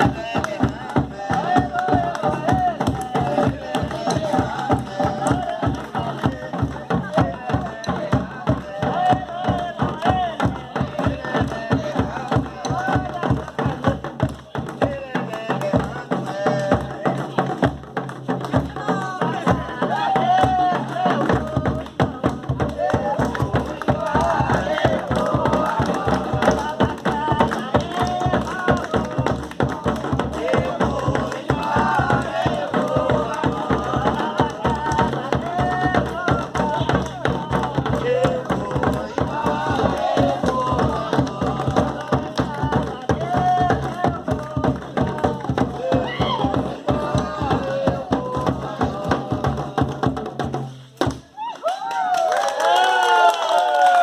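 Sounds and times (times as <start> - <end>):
voices singing: 0.0 - 50.6
drums beating a rhythm: 0.0 - 51.4
fast dense percussion: 0.0 - 51.4.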